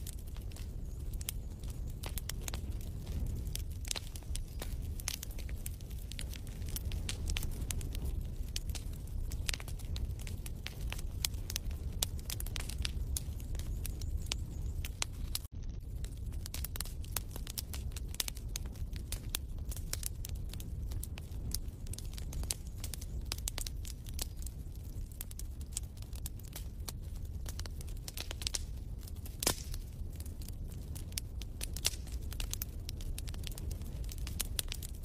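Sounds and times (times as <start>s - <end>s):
fire low rumble: 0.0s - 35.0s
wood fire crackling: 0.0s - 35.0s.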